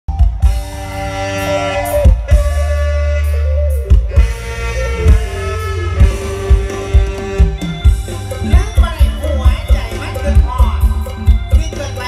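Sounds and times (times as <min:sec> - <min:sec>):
loud band music through speakers: 0:00.1 - 0:12.0.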